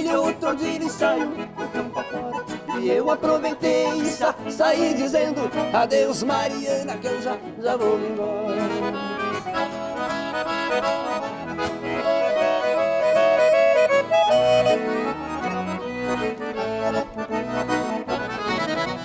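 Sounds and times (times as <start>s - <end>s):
accordion playing folk music: 0.0s - 19.0s
rhythmic accompaniment: 0.0s - 19.0s.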